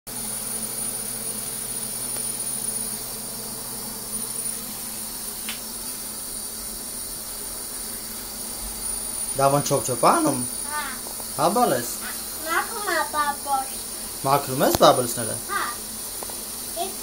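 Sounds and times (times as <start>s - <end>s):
shower water running into bathtub: 0.1s - 17.0s.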